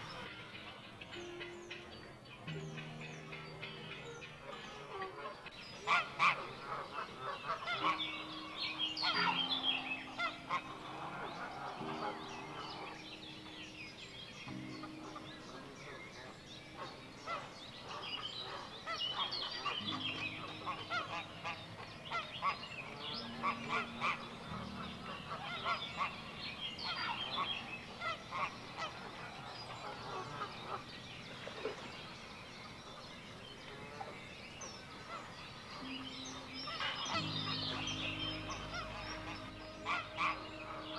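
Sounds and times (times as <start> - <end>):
geese honking: 0.0 - 31.8, 33.7 - 40.9.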